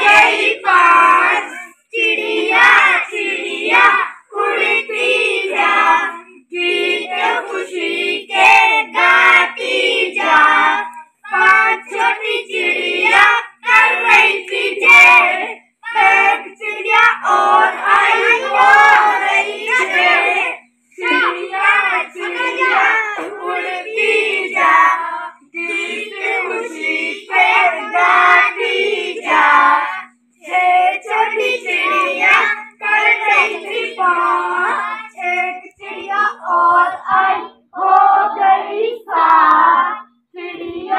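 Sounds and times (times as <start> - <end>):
children singing in unison: 0.0 - 40.9.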